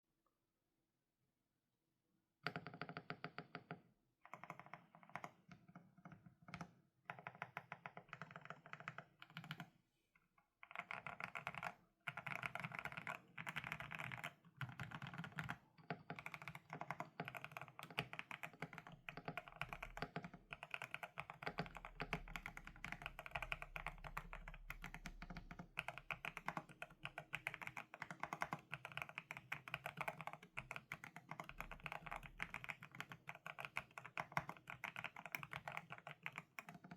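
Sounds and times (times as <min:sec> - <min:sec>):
mechanical keyboard typing: 0:04.3 - 0:09.7, 0:10.7 - 0:36.9.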